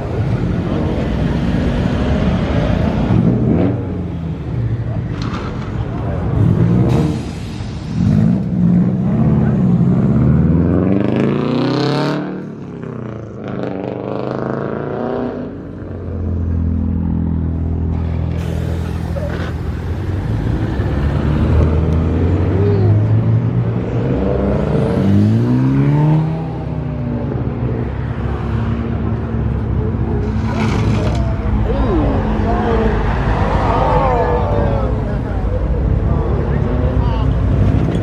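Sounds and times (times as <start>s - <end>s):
car engines accelerating hard: 0.0s - 38.0s.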